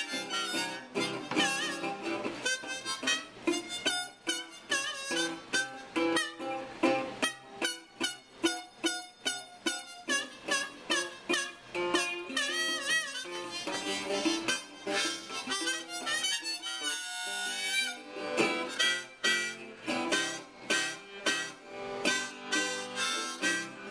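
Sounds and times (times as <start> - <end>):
blues harmonica solo: 0.0 - 23.9
strummed resonator guitar: 0.0 - 23.9.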